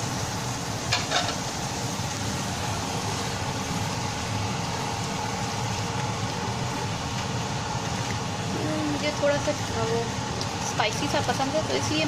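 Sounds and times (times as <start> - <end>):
faint constant whine: 0.0 - 12.0
gas burner rumbling hiss: 0.0 - 12.0.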